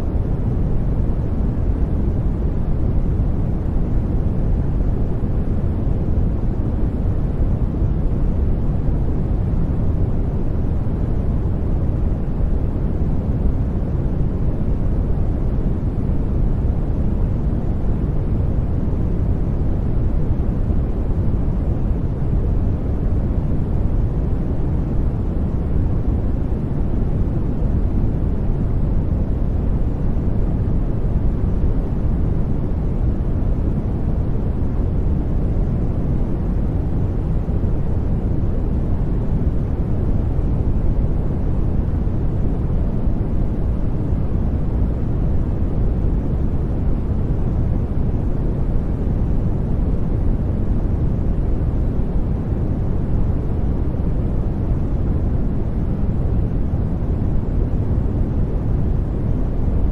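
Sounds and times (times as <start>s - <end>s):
deep muffled white noise: 0.0s - 59.9s.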